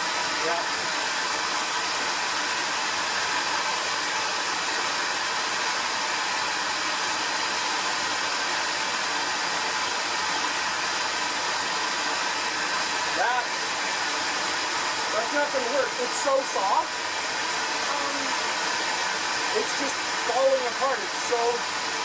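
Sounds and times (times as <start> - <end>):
vacuum motor running: 0.0 - 22.0.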